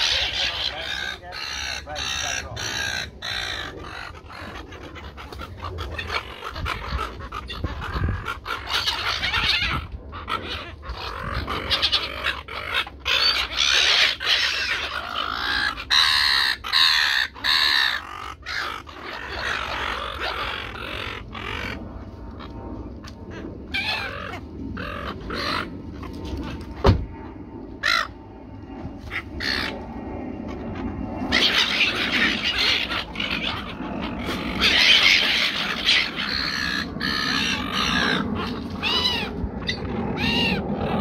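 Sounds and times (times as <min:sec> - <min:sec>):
gulls squawking: 0:00.0 - 0:28.2, 0:28.9 - 0:41.0.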